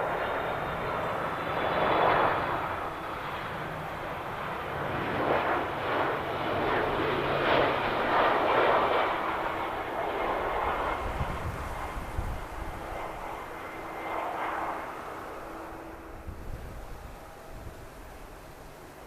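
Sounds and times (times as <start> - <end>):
airliner engines roaring: 0.0 - 19.0.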